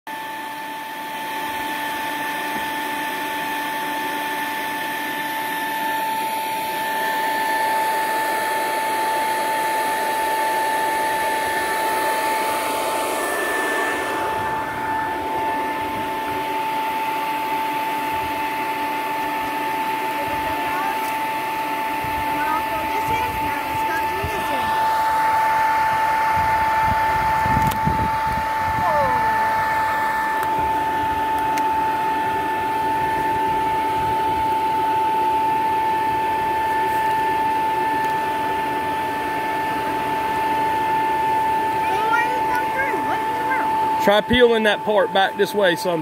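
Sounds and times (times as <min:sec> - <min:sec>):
electric fan whine and air rush: 0:00.1 - 0:46.0.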